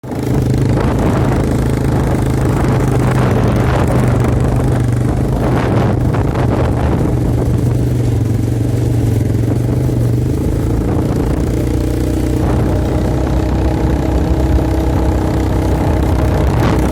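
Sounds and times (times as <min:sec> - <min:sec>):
quad bike engine running: 0:00.0 - 0:16.9.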